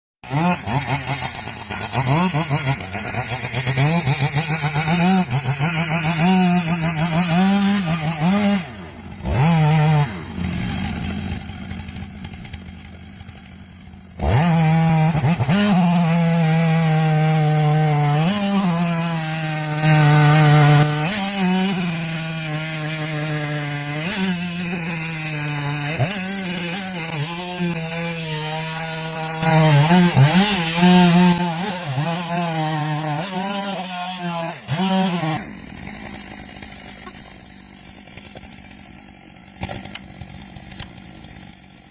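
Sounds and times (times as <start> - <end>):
chainsaw cutting tree: 0.2 - 41.9.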